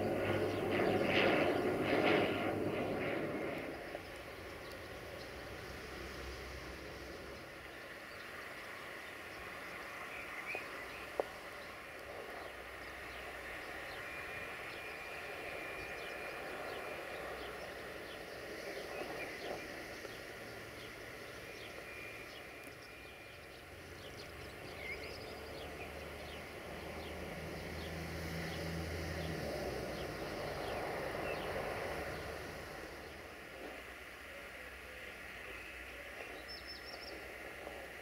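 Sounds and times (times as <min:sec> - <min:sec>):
birds chirping: 0:00.0 - 0:06.1, 0:06.8 - 0:38.0.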